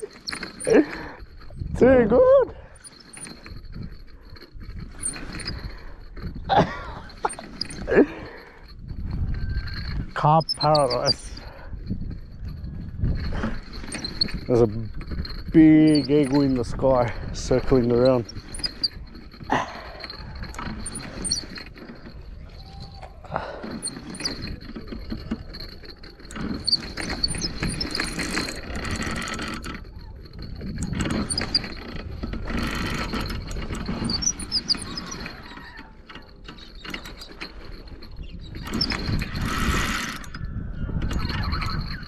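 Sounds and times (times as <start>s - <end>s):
fishing reel ratcheting whirr: 2.6s - 6.4s, 7.0s - 42.0s.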